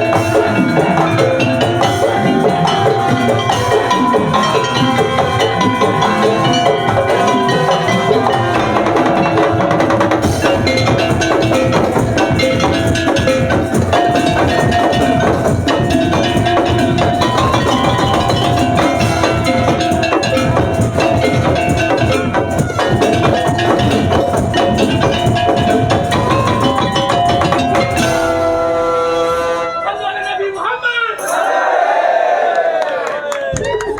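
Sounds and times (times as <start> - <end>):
tuned mallet percussion melody: 0.0 - 29.0
drums and wooden knocks: 0.0 - 29.1, 33.5 - 33.9.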